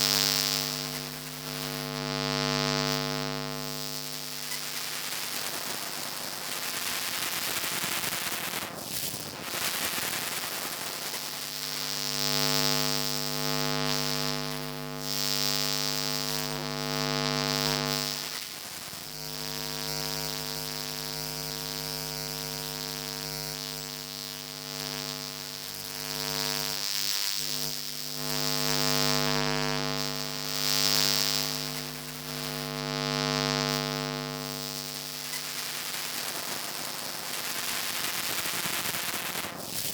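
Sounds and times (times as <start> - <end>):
electrical buzzing hum: 0.0 - 39.9.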